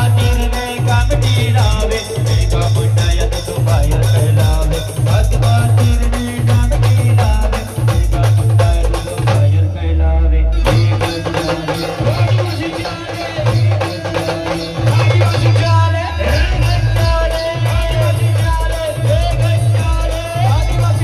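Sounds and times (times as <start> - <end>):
loud band music with heavy bass: 0.0 - 21.0.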